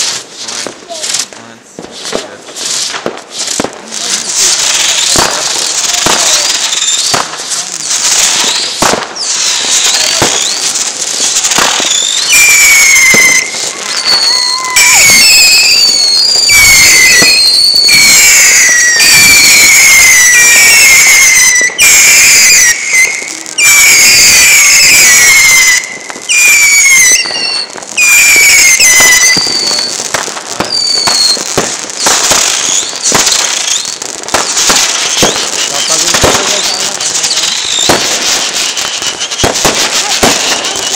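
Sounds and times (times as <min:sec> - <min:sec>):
falling firework whistles: 0:00.0 - 0:40.9
fireworks bangs and crackles: 0:00.0 - 0:40.9.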